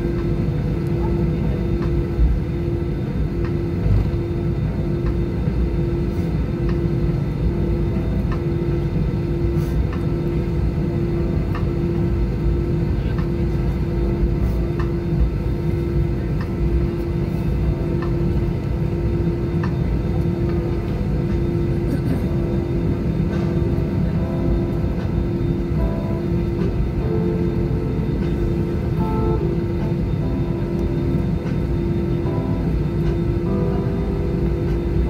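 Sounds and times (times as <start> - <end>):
aircraft engines idling rumble: 0.0 - 35.0
steady cabin hum: 0.0 - 35.0.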